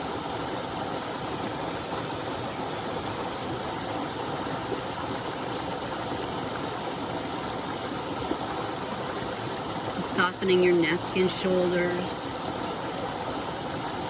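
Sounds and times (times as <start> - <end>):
waterfall splashing: 0.0 - 14.0.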